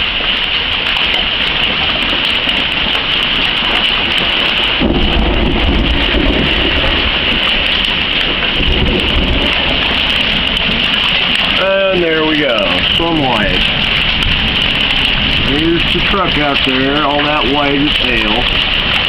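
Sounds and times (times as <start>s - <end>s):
hail and heavy rain: 0.0s - 19.0s
low rumble of thunder: 0.7s - 19.0s.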